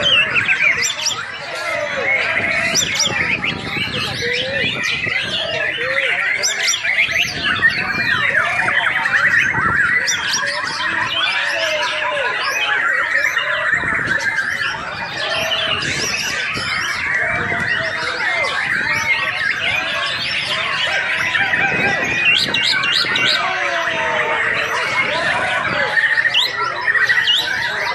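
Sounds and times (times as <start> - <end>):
bird singing whistled notes: 0.0 - 23.5.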